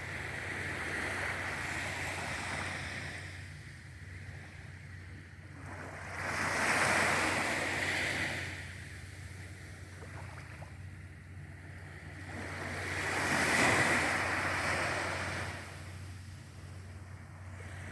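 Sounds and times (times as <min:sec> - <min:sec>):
low steady hum: 0:00.0 - 0:17.9
sea waves washing in: 0:00.0 - 0:17.9.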